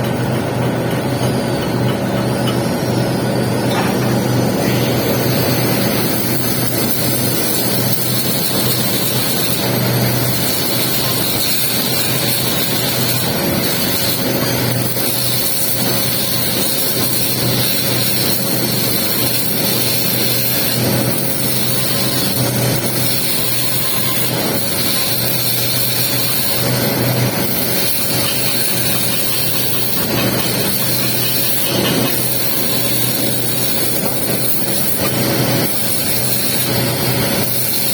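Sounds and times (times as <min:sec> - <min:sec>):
welding arc crackling and hissing: 0:00.2 - 0:37.9.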